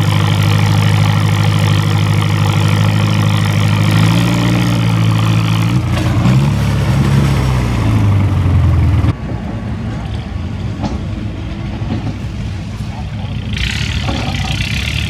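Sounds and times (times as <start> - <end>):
rough engine rumble: 0.0 - 15.0
tractor engine running hard: 0.0 - 15.0.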